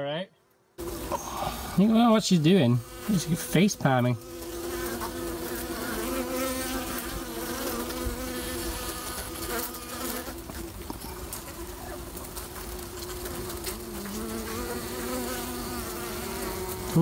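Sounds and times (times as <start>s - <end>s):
honey bees buzzing: 0.6s - 17.0s
single bees droning: 0.6s - 17.0s.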